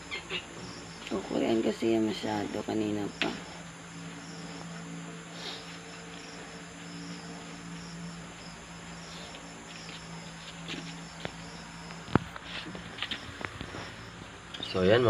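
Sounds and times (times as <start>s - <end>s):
crickets chirping: 0.0s - 15.0s
low steady hum: 0.0s - 15.0s.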